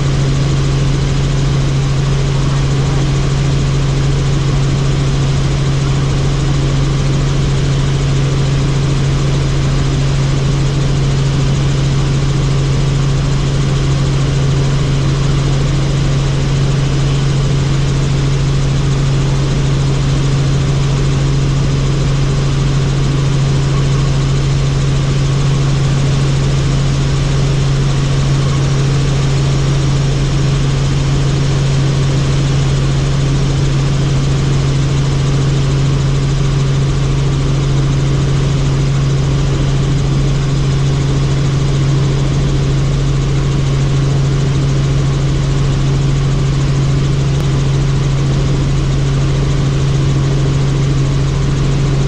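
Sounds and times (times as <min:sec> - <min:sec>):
helicopter engine and rotors: 0:00.0 - 0:52.0.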